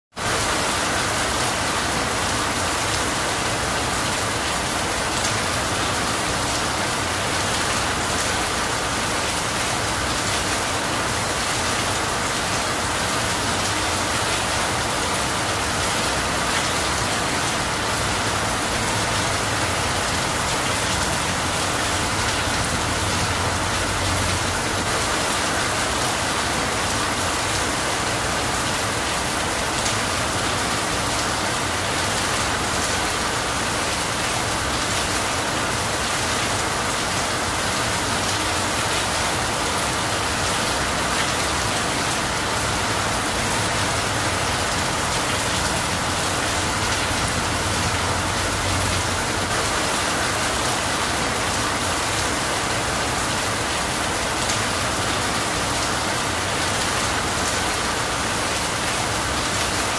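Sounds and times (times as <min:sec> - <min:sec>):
rain falling on trees: 0:00.1 - 0:59.9
rain running off roof: 0:00.1 - 0:59.9.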